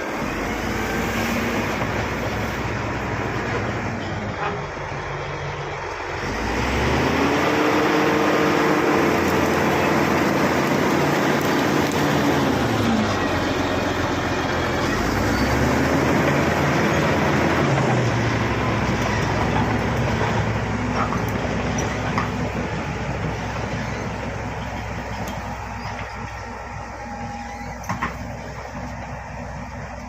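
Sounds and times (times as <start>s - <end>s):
bulldozer diesel engine revving: 0.0s - 30.0s.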